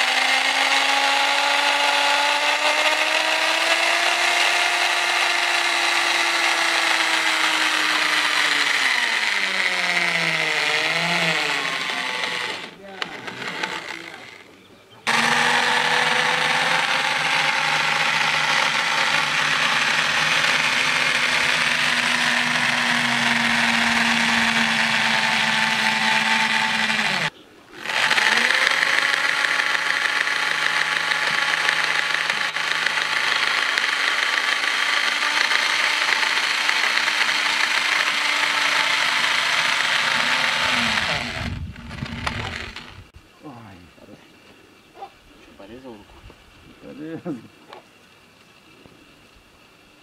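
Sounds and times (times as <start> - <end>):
electric drill running: 0.0 - 14.5, 15.1 - 43.1.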